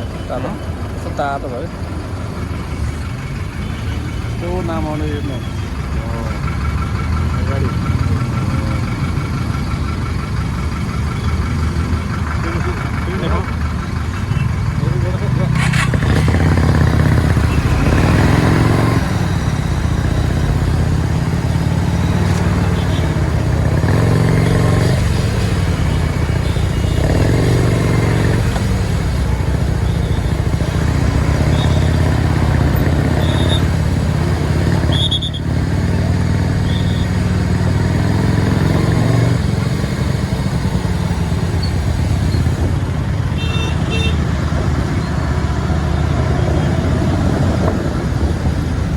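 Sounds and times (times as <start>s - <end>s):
motorcycle engine revving: 4.3s - 48.9s.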